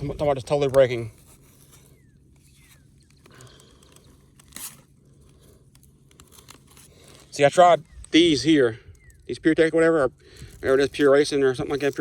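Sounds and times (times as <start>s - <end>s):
faint handling noises: 0.0s - 9.3s, 10.4s - 12.0s.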